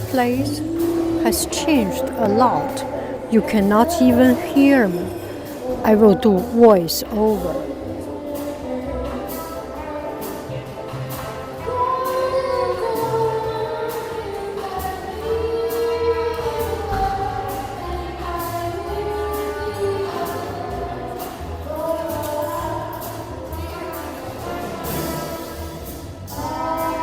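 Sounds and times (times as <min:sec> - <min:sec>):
loud music with singing: 0:00.0 - 0:27.0.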